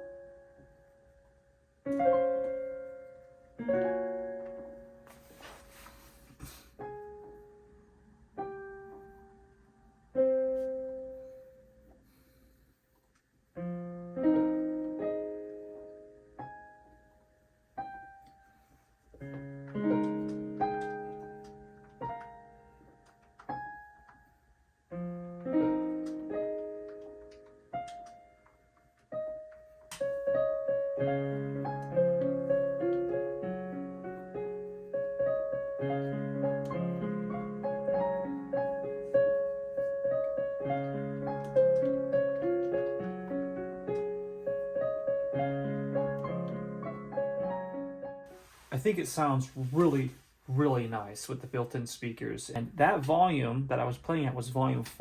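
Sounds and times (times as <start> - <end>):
slow digital piano piece: 0.0 - 48.8.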